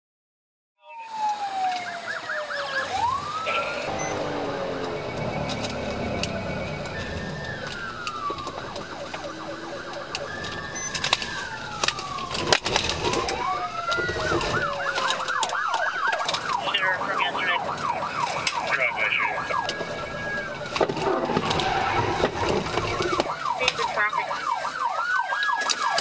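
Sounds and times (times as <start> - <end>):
police siren wailing and yelping: 0.8 - 26.0.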